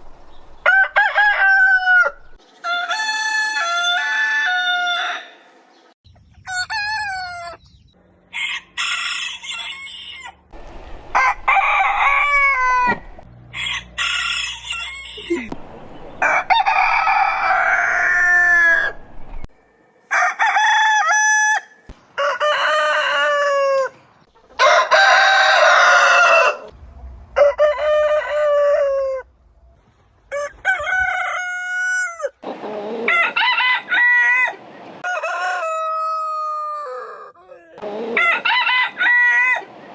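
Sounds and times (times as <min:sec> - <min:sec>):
roosters crowing: 0:00.6 - 0:05.6, 0:06.4 - 0:07.6, 0:08.2 - 0:19.2, 0:20.0 - 0:29.5, 0:30.2 - 0:39.9.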